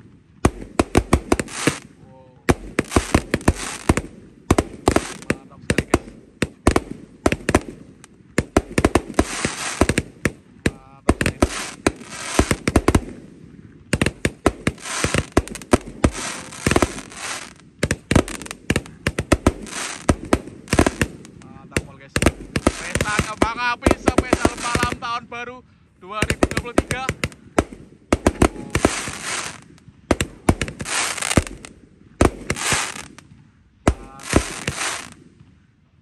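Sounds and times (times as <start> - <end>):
fireworks bangs: 0.0 - 25.4, 26.0 - 35.6
fireworks crackling: 0.0 - 35.5.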